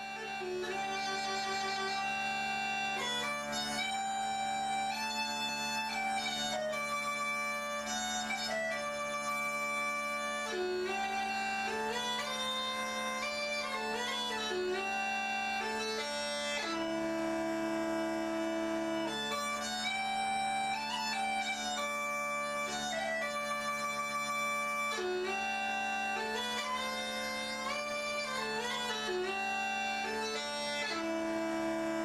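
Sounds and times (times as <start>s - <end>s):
bagpipe music: 0.0s - 32.0s.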